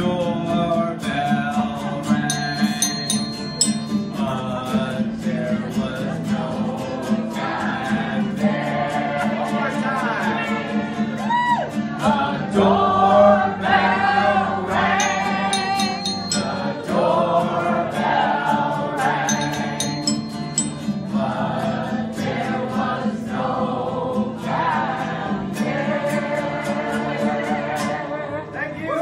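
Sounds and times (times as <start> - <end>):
acoustic guitar strumming: 0.0 - 12.6, 13.5 - 28.1
group of voices singing: 0.0 - 28.8.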